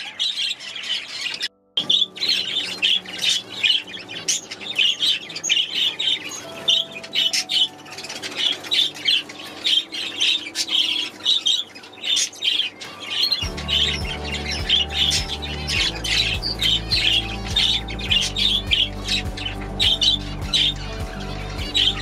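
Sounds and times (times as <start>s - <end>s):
budgerigars chattering and squawking: 0.0s - 22.0s
soft background music: 0.0s - 22.0s.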